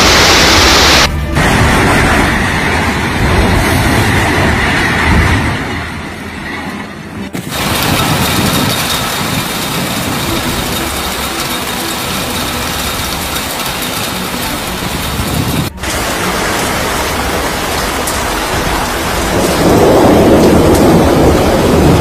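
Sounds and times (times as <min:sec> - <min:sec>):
heavy rain downpour: 0:00.0 - 0:06.1, 0:07.4 - 0:22.0
demolition site din: 0:00.0 - 0:22.0.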